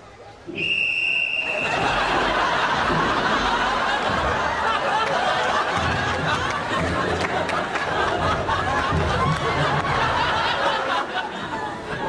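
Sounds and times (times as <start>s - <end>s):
crowd chattering and laughing: 0.0s - 12.0s.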